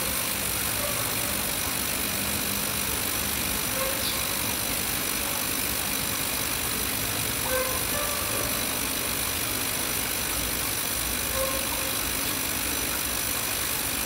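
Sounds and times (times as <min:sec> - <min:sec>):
ultrasonic cleaner hiss and hum: 0:00.0 - 0:14.0.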